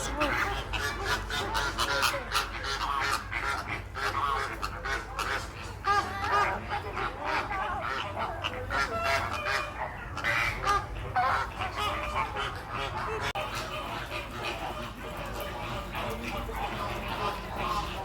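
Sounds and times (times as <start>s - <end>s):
flock of birds calling: 0.0s - 18.0s.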